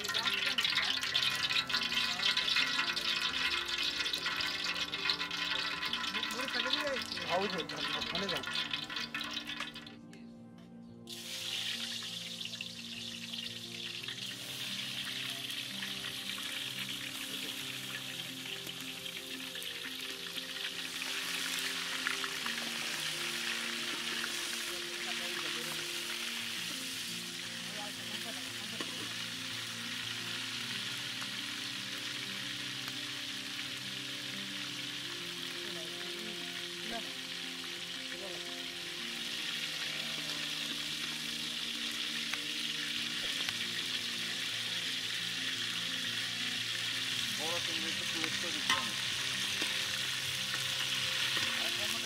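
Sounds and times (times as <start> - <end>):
meat frying in hot oil: 0.0 - 10.0, 11.1 - 52.0.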